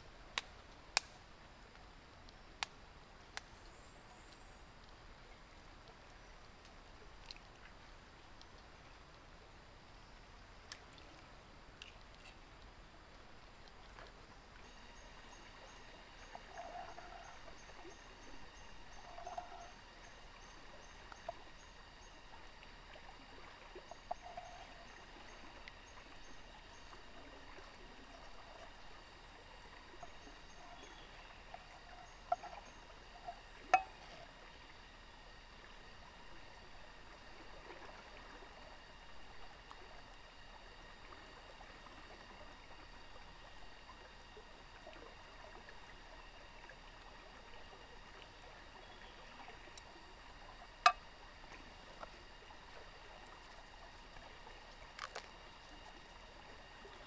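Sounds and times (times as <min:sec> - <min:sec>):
stream flowing: 0:04.6 - 0:57.0.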